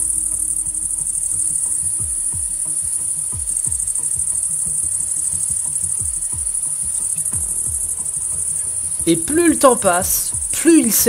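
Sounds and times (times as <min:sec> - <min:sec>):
insect chorus chirring: 0:00.0 - 0:11.0.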